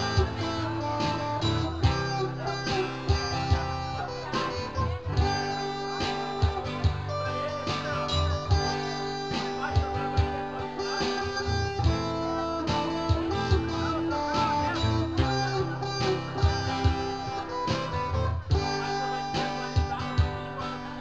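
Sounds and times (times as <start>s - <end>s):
amplified guitars strumming chords: 0.0s - 21.0s
steady beat: 0.0s - 21.0s.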